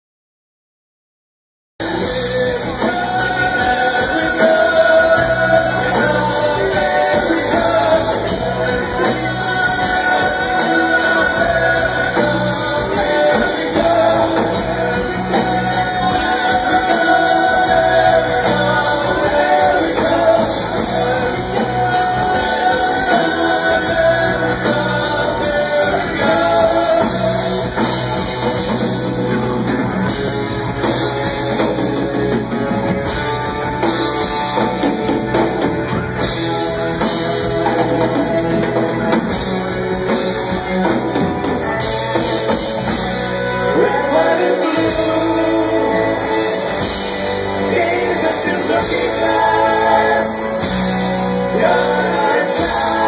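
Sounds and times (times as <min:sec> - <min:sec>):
live rock band playing: 0:01.8 - 0:53.0.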